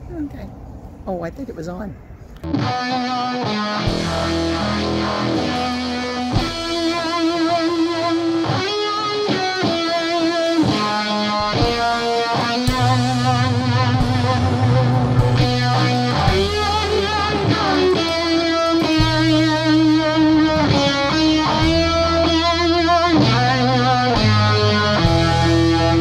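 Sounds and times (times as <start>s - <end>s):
bass line: 2.4s - 26.0s
electric guitar instrumental music: 2.4s - 26.0s.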